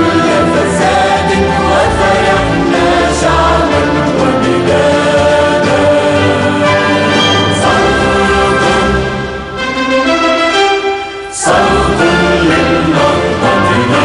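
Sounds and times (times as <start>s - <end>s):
choir singing an anthem: 0.0s - 9.6s, 11.2s - 14.0s
instrumental backing: 0.0s - 14.0s.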